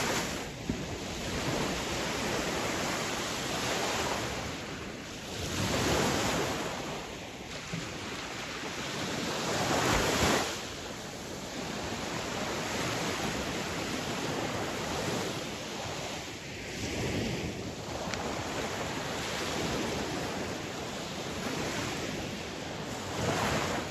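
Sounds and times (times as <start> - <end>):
sea waves breaking on shore: 0.0 - 23.9
wind noise on microphone: 0.0 - 23.9.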